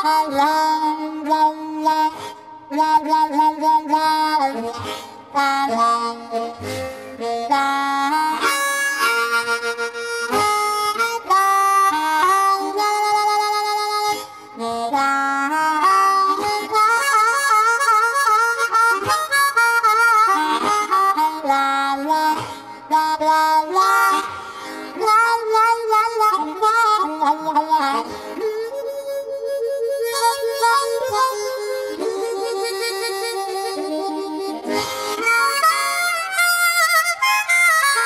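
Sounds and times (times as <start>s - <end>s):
blues harmonica melody: 0.0s - 38.0s.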